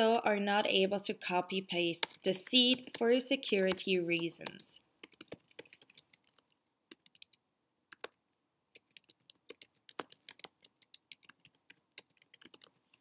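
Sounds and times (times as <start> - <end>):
typing on computer keyboard: 2.0 - 13.0.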